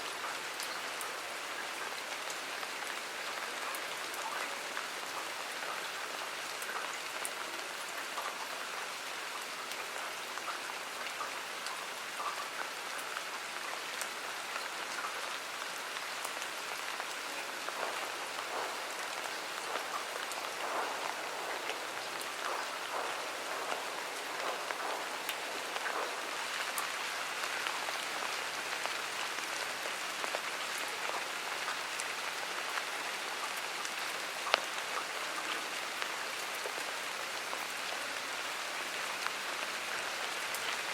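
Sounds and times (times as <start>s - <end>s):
raindrops ticking on surfaces: 0.0s - 40.9s
steady rain falling: 0.0s - 40.9s.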